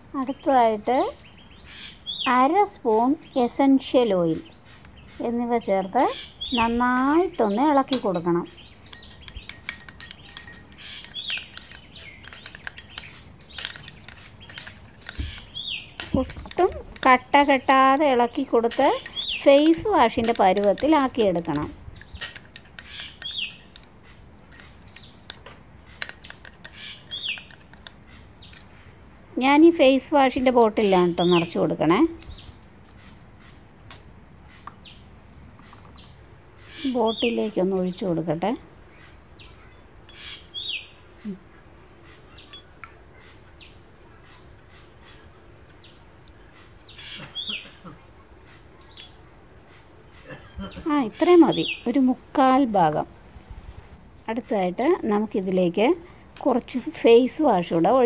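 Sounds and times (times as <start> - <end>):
bird chirping: 0.1 - 53.0.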